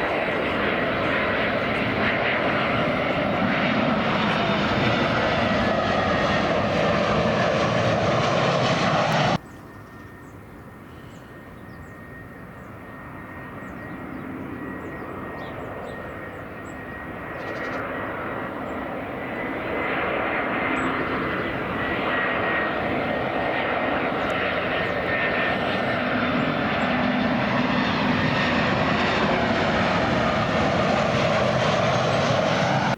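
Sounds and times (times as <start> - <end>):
high engine whine: 0.0 - 32.9
jet airliner engines: 0.0 - 32.9.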